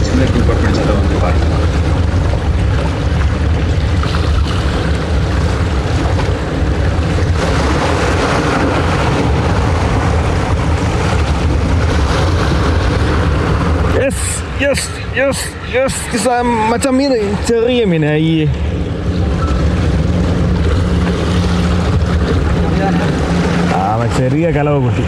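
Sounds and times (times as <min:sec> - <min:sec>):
boat engine droning: 0:00.0 - 0:25.0
wind on microphone: 0:00.0 - 0:25.0.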